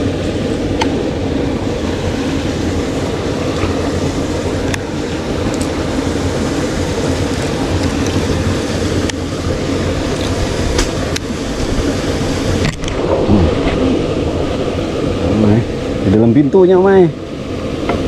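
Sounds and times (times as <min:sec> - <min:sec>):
small boat engine running: 0:00.0 - 0:18.0.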